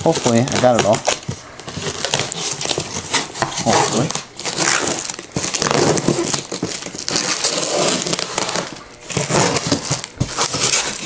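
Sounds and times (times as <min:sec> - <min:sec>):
packing tape crinkling and rustling: 0:00.0 - 0:11.0.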